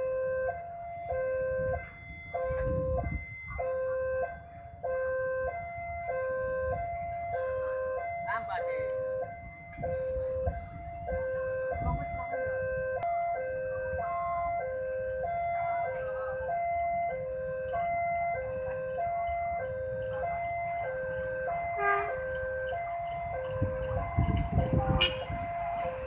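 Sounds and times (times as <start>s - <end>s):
two-tone crossing alarm: 0.0s - 26.0s.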